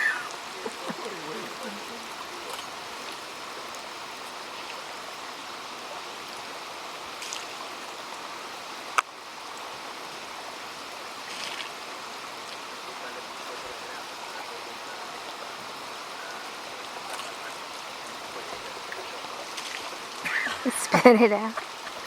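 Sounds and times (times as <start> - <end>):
flowing water: 0.0 - 22.0.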